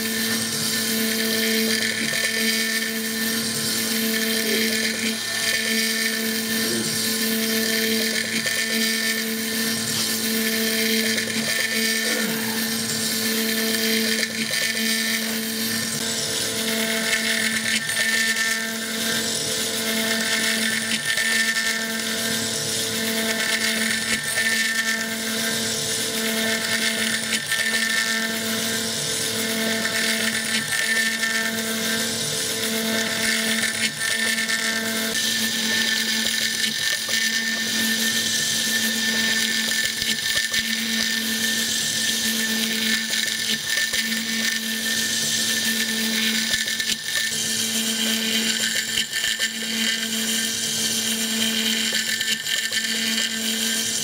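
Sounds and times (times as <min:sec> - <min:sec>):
milling spindle high whine: 0:00.0 - 0:54.0.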